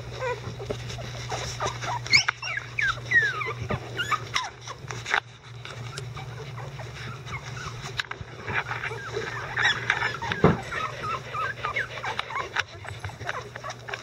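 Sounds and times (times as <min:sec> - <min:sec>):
dogs whimpering: 0:00.0 - 0:14.0
rustling and small knocks: 0:00.0 - 0:14.0.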